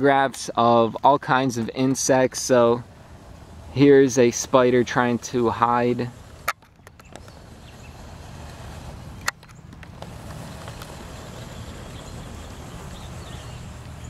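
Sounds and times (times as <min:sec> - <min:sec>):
outdoor background rumble: 0:00.0 - 0:14.0.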